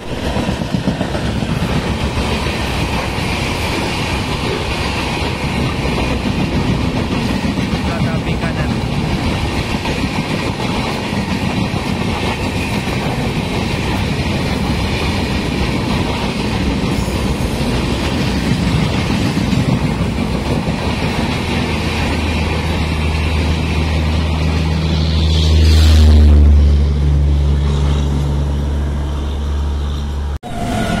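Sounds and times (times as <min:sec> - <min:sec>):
train wheels clickety-clack: 0:00.0 - 0:26.0.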